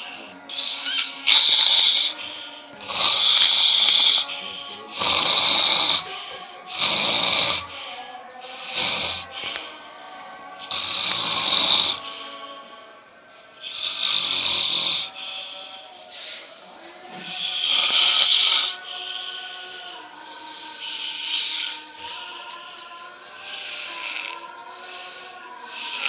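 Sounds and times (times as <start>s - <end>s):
faint background music: 0.0s - 26.0s
person snoring loudly: 0.0s - 26.0s.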